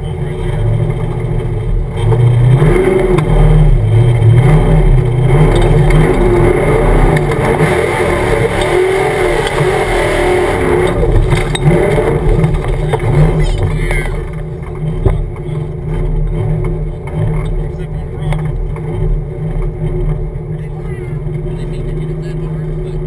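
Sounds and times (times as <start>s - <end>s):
engine revving hard under load: 0.0s - 23.0s.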